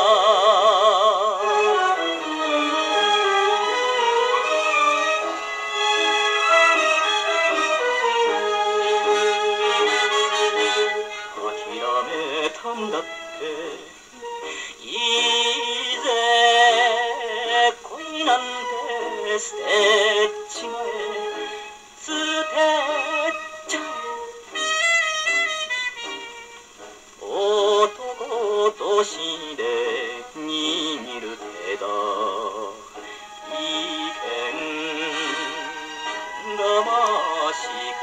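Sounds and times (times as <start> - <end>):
popular song on old phonograph: 0.0 - 38.0.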